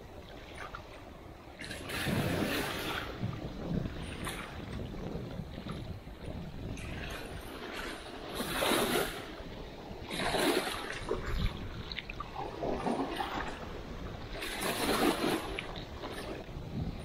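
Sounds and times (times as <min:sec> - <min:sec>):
small waves washing in: 0:00.0 - 0:17.0.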